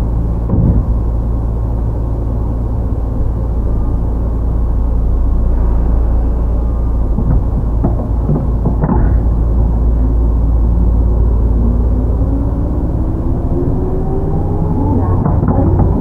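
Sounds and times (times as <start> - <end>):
heavy train rumble: 0.0 - 16.0
traction motor hum rising: 0.0 - 16.0.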